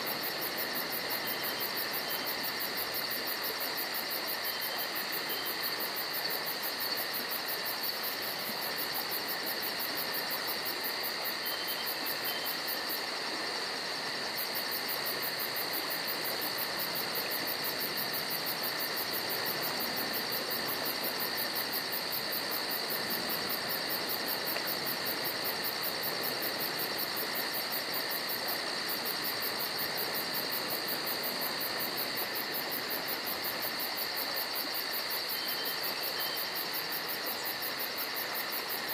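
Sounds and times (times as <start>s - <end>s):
constant hiss: 0.0s - 38.9s
crickets trilling: 0.0s - 38.9s.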